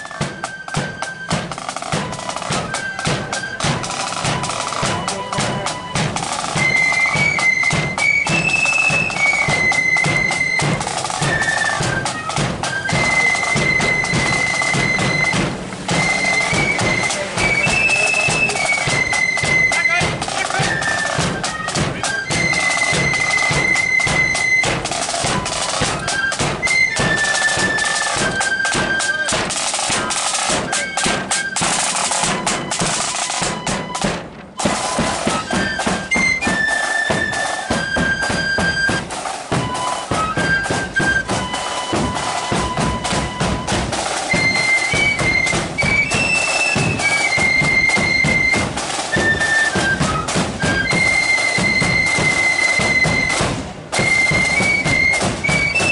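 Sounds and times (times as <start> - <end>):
flutes playing shrill melody: 0.0 - 55.9
side drums beating time: 0.0 - 55.9.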